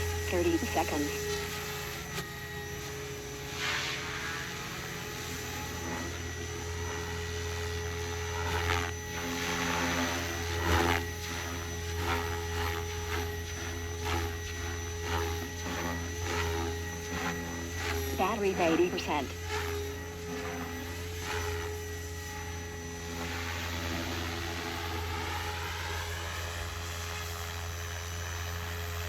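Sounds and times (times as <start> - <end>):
constant low hum: 0.0 - 29.0
rc helicopter rotor whir: 0.0 - 29.0.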